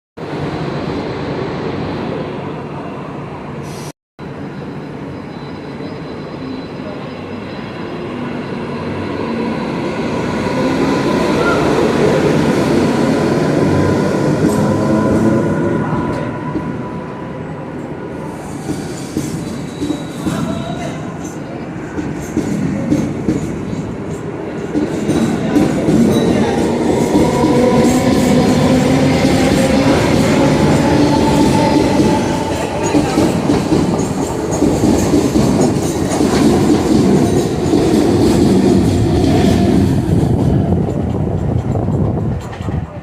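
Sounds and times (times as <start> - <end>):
electric train rumbling: 0.2 - 43.0.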